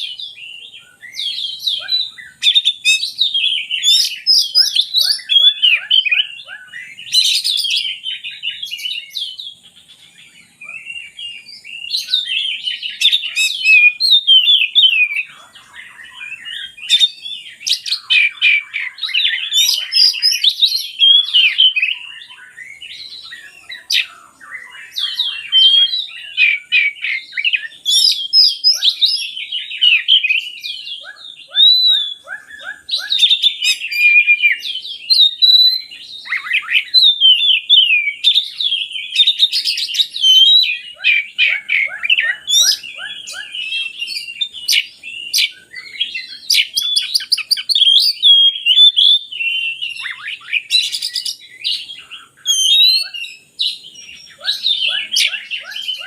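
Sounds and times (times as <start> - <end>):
bird singing chirps and whistles: 0.0 - 56.0.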